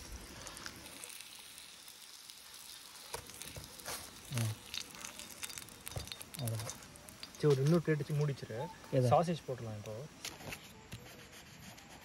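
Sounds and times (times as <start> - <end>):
food sizzling over campfire: 0.0 - 10.9.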